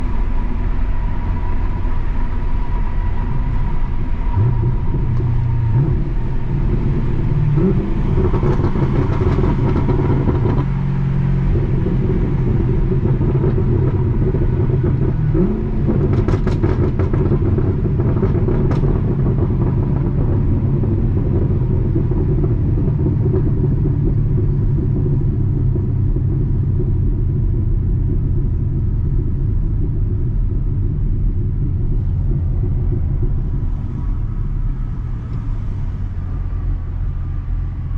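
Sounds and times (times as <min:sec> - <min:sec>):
car exhaust burbling: 0:00.0 - 0:37.9
exhaust crackles: 0:00.0 - 0:37.9
engine revving: 0:02.5 - 0:37.9.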